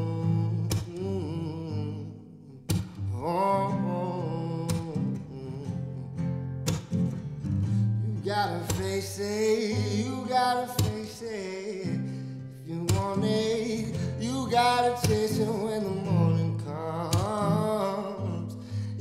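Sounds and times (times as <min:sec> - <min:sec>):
man singing wordlessly: 0:00.0 - 0:06.4, 0:08.0 - 0:19.0
acoustic guitar strumming: 0:00.0 - 0:19.0.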